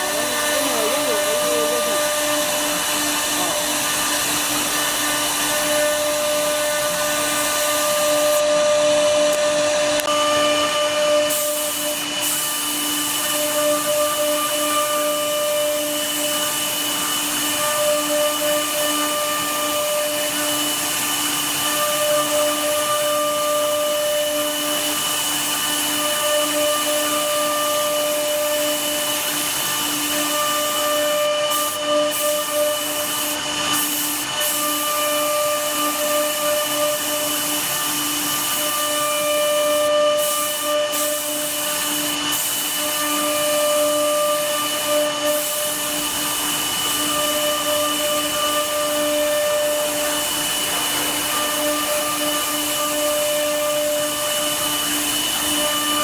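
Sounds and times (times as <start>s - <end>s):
router spindle cutting wood: 0.0s - 56.0s.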